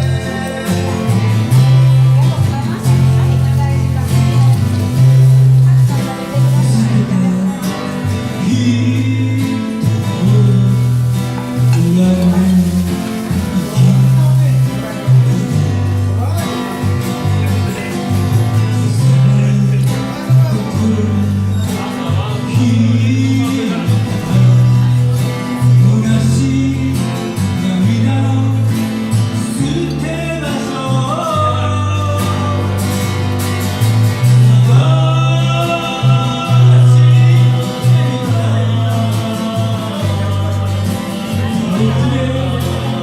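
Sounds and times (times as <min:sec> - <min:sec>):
person singing: 0:00.0 - 0:33.4, 0:34.0 - 0:43.0
guitar with bass line: 0:00.0 - 0:43.0.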